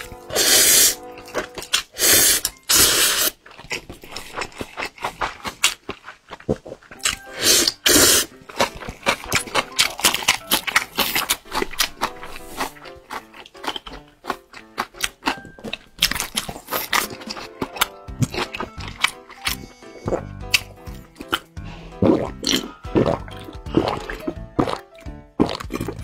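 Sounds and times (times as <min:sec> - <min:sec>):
background music: 0:00.0 - 0:03.3, 0:06.9 - 0:26.0
slurping noodles: 0:00.1 - 0:05.6, 0:06.4 - 0:14.1, 0:16.2 - 0:26.0
wet chewing and lip-smacking: 0:01.0 - 0:26.0.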